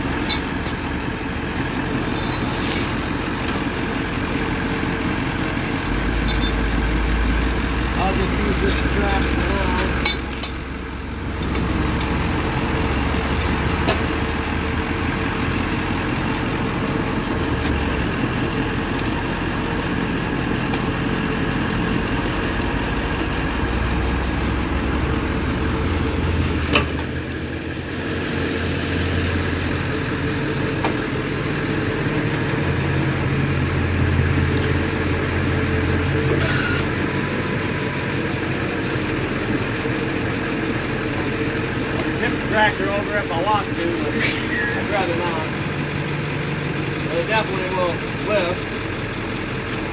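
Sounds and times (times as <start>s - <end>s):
truck engine droning: 0.0s - 49.9s.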